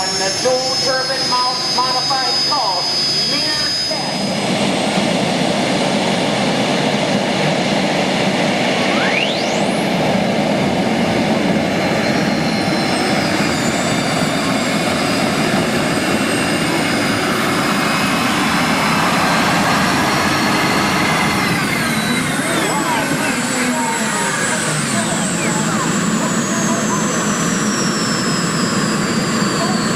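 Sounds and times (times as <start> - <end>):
gas turbine engines roaring: 0.0 - 29.9
high turbine whines: 0.0 - 29.9.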